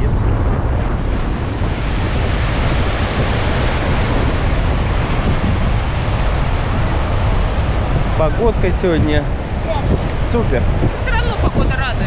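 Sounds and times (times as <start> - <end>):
surf washing in: 0.0 - 12.0
wind buffeting microphone: 0.0 - 12.0.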